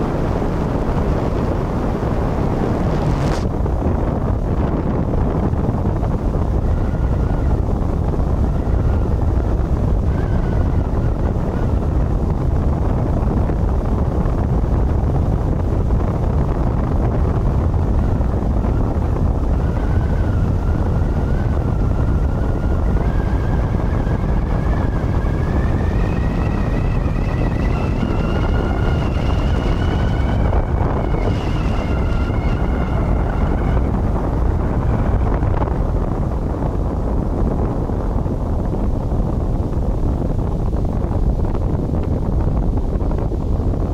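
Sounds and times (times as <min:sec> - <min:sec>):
high rising whine: 0:00.0 - 0:14.0, 0:16.8 - 0:39.0
speedboat engine: 0:00.0 - 0:39.8
wind buffeting microphone: 0:00.0 - 0:43.9.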